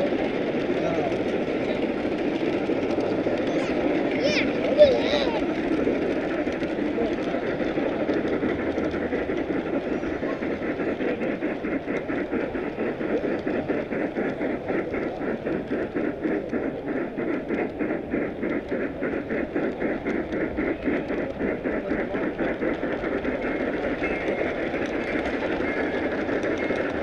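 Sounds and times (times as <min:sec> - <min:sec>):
model train wheels rumbling: 0:00.0 - 0:27.0
rapid even ticking: 0:00.0 - 0:27.0.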